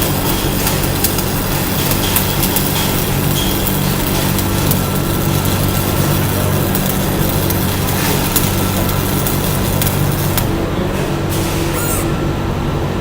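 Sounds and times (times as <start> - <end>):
welding arc crackle: 0.0 - 10.7.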